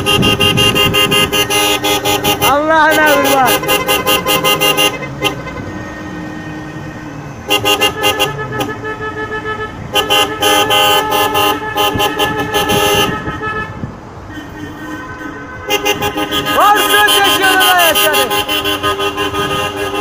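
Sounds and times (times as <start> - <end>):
car horn honking: 0.0 - 20.0
cars running: 0.0 - 20.0.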